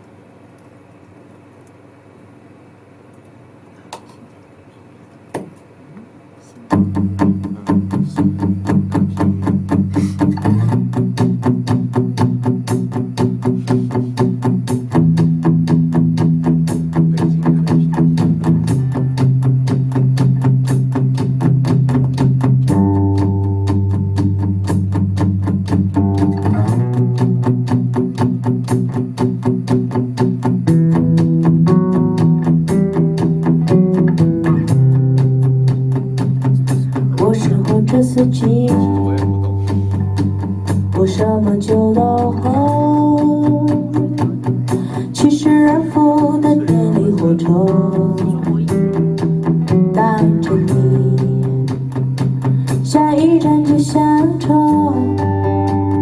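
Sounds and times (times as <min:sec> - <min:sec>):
bass notes: 0:06.7 - 0:56.0
picked guitar melody: 0:06.7 - 0:56.0
strummed acoustic guitar: 0:06.7 - 0:56.0.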